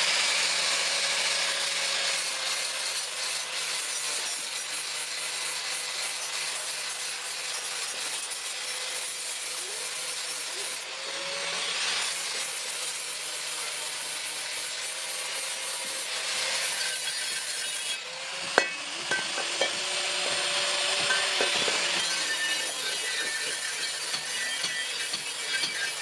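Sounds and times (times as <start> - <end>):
tool rasping and scraping: 2.0 - 26.0.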